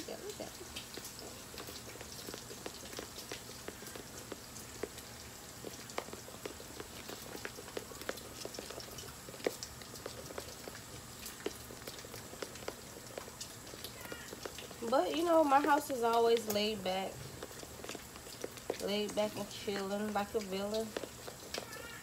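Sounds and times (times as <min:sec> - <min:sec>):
faint sizzle: 0:00.0 - 0:22.0
food crackling and popping in pan: 0:00.0 - 0:22.0.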